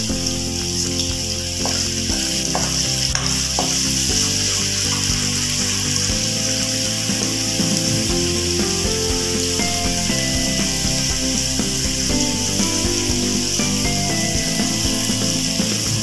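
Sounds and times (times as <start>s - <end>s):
background music: 0.0s - 16.0s
onions sizzling in hot oil: 0.1s - 16.0s.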